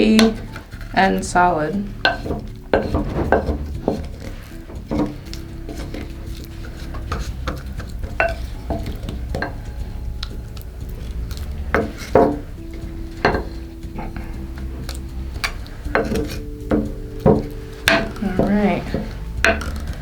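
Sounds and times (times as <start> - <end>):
utensil scraping a bowl: 0.0 - 20.0.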